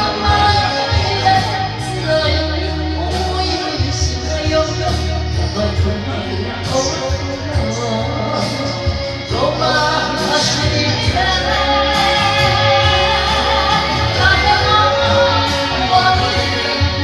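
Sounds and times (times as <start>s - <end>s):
karaoke backing music: 0.0s - 17.0s
woman singing into a microphone: 0.0s - 17.0s.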